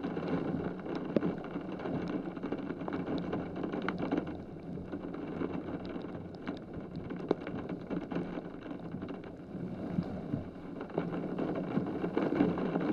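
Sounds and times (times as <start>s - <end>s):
heavy rain: 0.0s - 12.9s
raindrops tapping close by: 0.0s - 12.9s.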